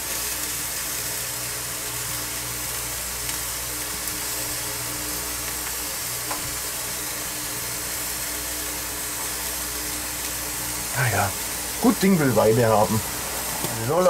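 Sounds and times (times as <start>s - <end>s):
electric fan humming: 0.0s - 14.0s
food sizzling on grill: 0.0s - 14.0s.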